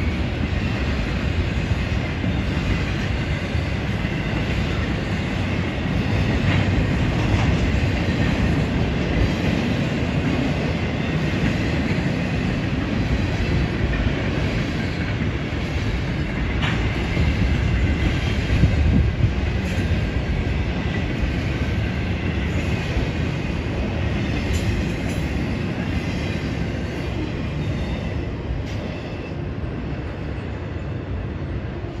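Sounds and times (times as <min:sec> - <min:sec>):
train rumbling on track: 0:00.0 - 0:32.0.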